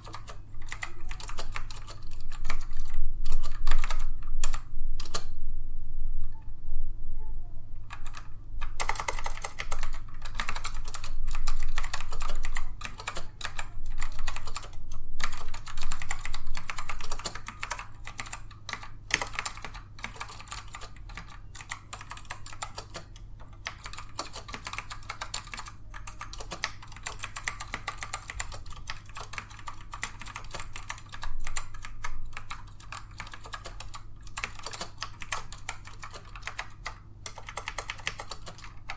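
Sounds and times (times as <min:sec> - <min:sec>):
fast typing on keyboard: 0:00.0 - 0:05.3, 0:07.8 - 0:38.9.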